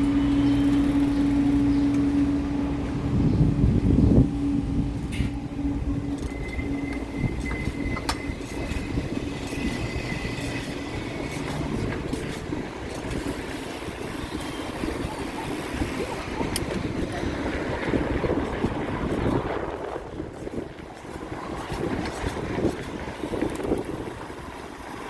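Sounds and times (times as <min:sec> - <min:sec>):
bicycle road noise: 0:00.0 - 0:25.0
wind rumbling on microphone: 0:00.0 - 0:25.0.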